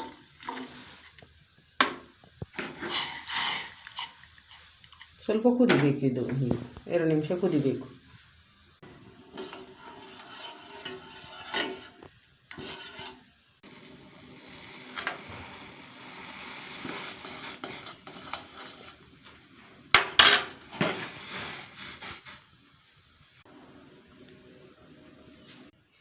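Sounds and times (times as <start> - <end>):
steady hiss: 0.0 - 5.6, 6.4 - 25.7.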